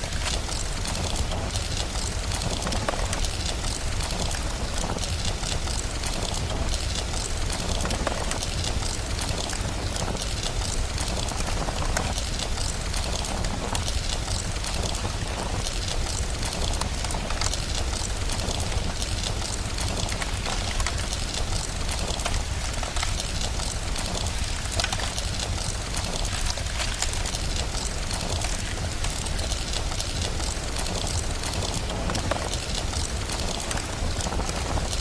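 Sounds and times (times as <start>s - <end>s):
fire crackling: 0.0s - 35.0s
steady rain: 0.0s - 35.0s.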